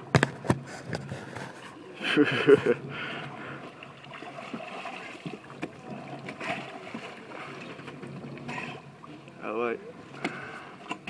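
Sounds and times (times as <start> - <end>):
water noise: 0.0 - 11.0.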